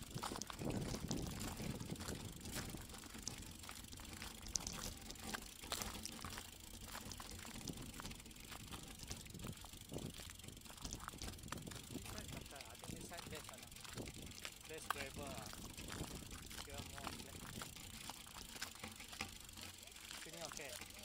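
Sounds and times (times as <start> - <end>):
tyres on gravel clicks and rattles: 0.0 - 21.0
wind and road rumble: 0.0 - 21.0.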